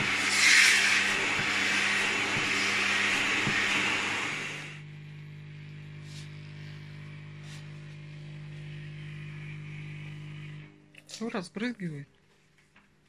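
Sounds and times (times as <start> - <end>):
vacuum cleaner motor humming: 0.0 - 10.8.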